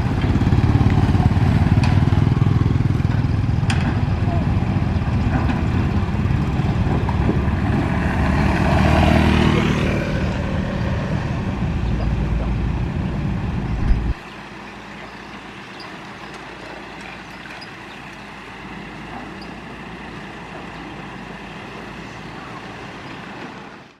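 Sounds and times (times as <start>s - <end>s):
diesel construction machinery: 0.0s - 24.0s.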